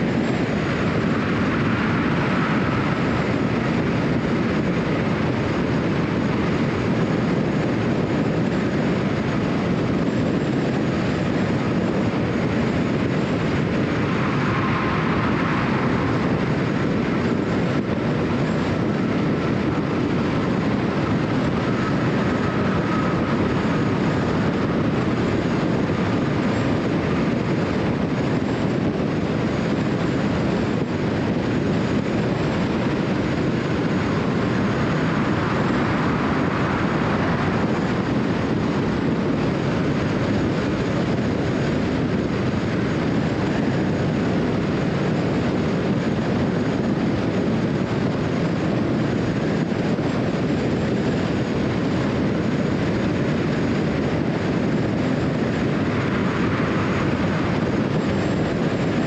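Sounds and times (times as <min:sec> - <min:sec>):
car road and tyre noise: 0:00.0 - 0:59.0
faint high whine: 0:00.0 - 0:59.0.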